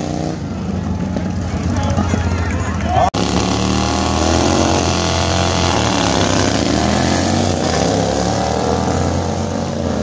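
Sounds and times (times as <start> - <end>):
racing lawn tractor engines: 0.0 - 10.0.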